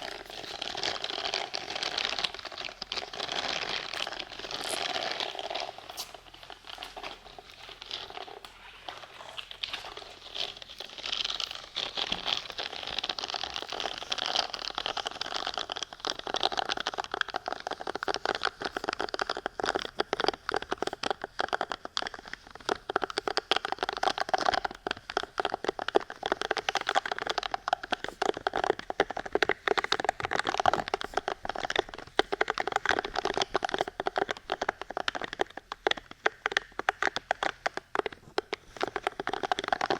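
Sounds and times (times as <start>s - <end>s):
crinkling and scratching: 0.0s - 39.9s.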